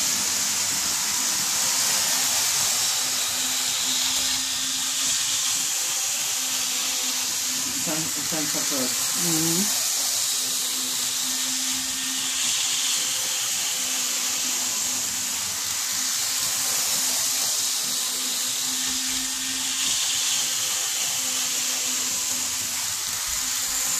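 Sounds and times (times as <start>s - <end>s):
model trains whirring: 0.0s - 23.9s.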